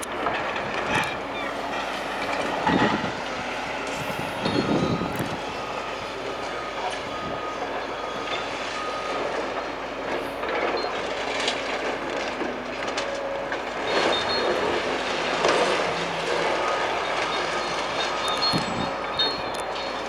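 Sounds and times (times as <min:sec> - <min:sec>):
demolition clattering and grinding: 0:00.0 - 0:20.0
high metal squeals: 0:00.0 - 0:20.0.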